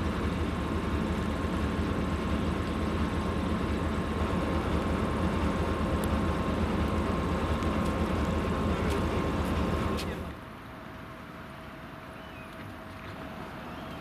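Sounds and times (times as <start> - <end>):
diesel locomotive engine idling: 0.0 - 14.0
thin steady whine: 0.0 - 14.0.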